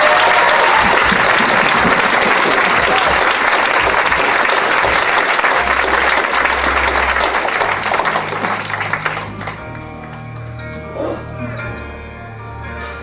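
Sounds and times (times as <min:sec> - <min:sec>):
audience applauding: 0:00.0 - 0:10.7
music playing: 0:00.0 - 0:13.0.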